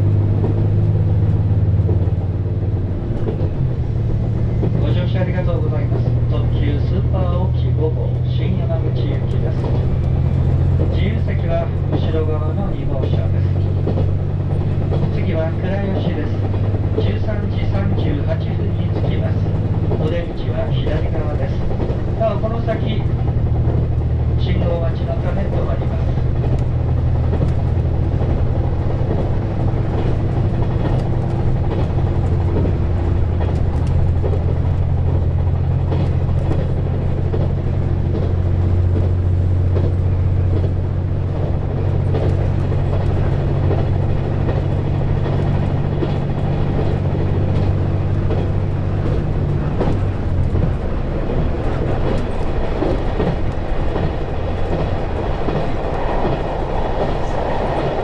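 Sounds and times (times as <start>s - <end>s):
diesel engine droning: 0.0s - 58.0s
train wheels clacking on track: 0.0s - 58.0s.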